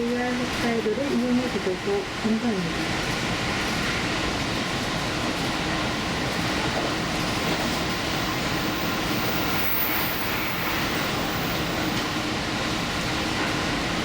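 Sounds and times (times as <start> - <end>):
train running at speed: 0.0 - 14.0.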